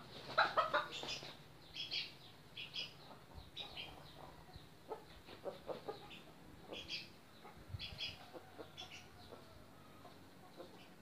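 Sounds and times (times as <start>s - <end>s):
chickens clucking softly: 0.2s - 1.4s, 2.8s - 11.0s.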